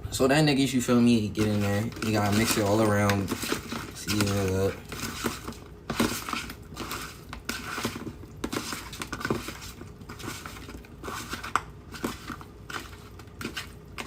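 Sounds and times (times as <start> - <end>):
utensil scraping against a pan: 1.3 - 14.0.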